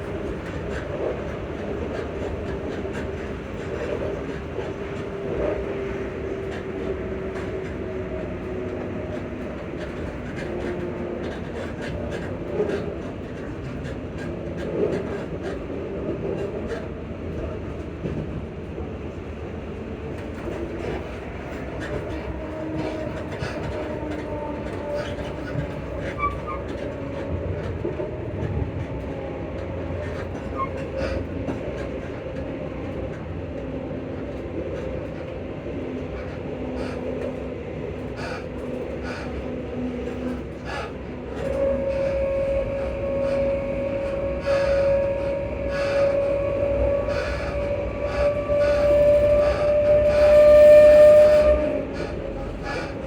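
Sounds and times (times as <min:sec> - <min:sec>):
train rumble inside carriage: 0:00.0 - 0:53.0
wheels clicking on rails: 0:00.0 - 0:53.0.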